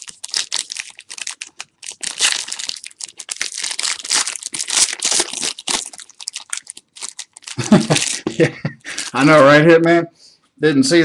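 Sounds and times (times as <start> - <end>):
foil wrapper crinkling and tearing: 0.0 - 9.3.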